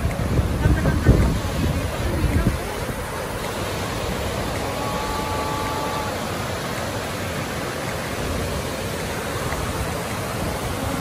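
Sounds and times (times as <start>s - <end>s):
water rushing over spillway: 0.0s - 11.0s.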